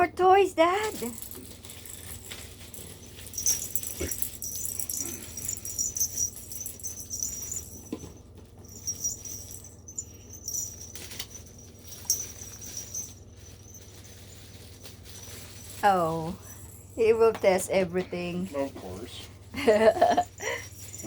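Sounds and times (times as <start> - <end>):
cat toys jingling and rattling: 0.6 - 21.0
small bell ringing: 0.8 - 17.4, 19.6 - 21.0.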